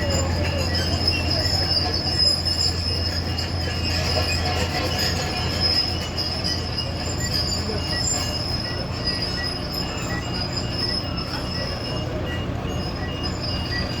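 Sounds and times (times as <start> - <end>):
crawler tracks squealing: 0.0 - 14.0
diesel engine humming: 0.0 - 14.0.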